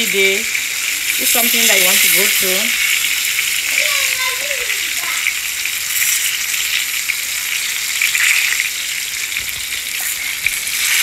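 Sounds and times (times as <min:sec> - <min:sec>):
fish sizzling in frying pan: 0:00.0 - 0:11.0.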